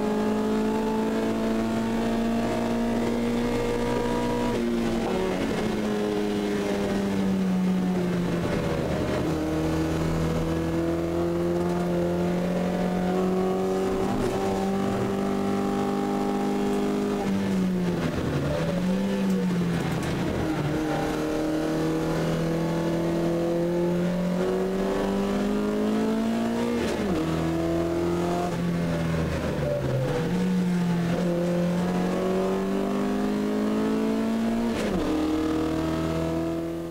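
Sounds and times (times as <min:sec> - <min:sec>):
race car engine accelerating: 0:00.0 - 0:36.9.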